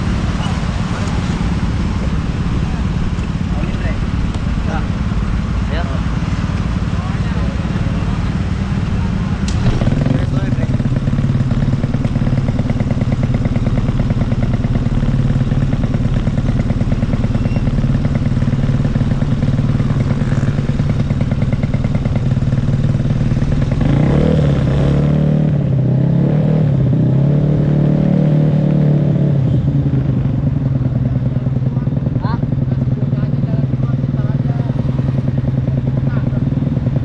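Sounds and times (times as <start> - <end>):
scooter engine idling and revving: 0.0 - 37.0.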